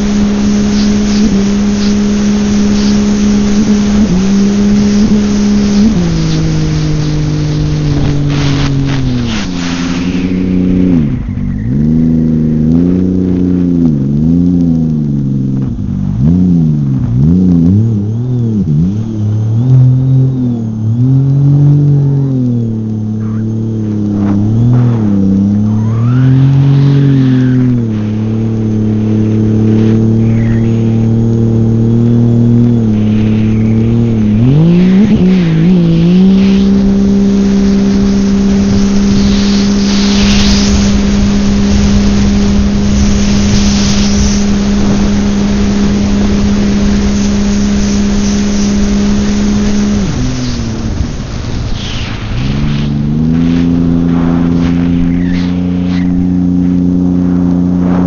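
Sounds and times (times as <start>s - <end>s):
watercraft engine revving: 0.0s - 58.0s
wind: 0.0s - 58.0s.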